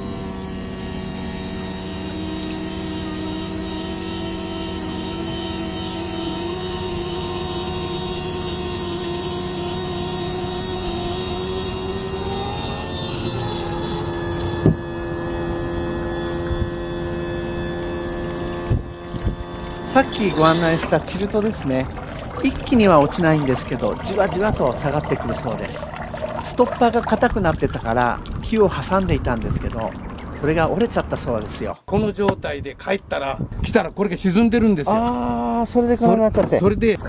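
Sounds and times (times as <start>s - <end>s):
pump motor whining: 0.0s - 31.7s.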